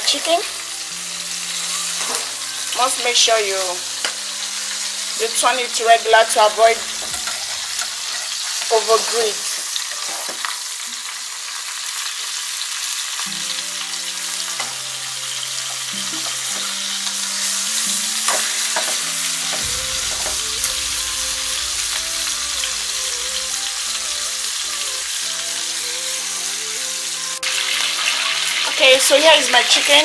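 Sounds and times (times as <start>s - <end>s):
chicken sizzling in oil: 0.0s - 30.0s
soft background music: 0.0s - 30.0s.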